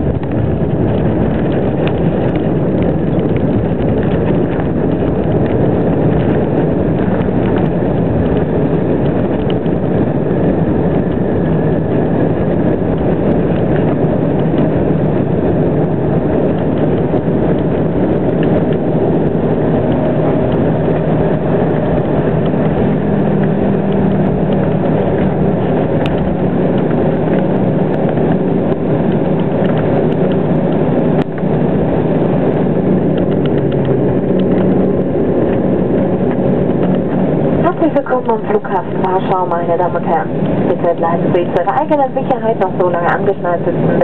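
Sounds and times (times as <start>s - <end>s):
jet engine and airflow rush: 0.0s - 44.0s
low hum: 0.0s - 44.0s.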